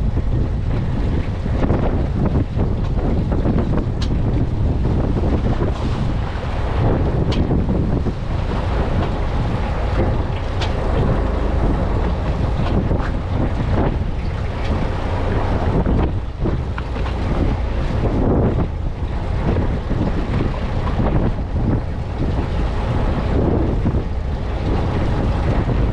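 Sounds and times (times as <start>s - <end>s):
water washing: 0.0s - 25.9s
wind buffeting microphone: 0.0s - 25.9s.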